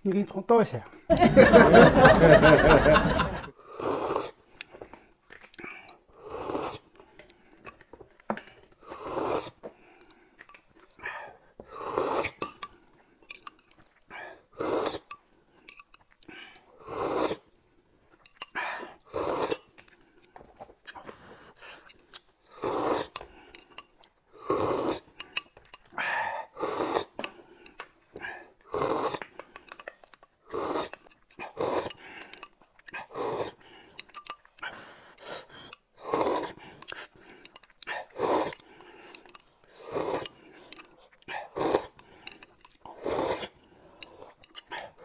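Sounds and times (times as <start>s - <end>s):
people slurping from spoons: 1.6s - 45.0s.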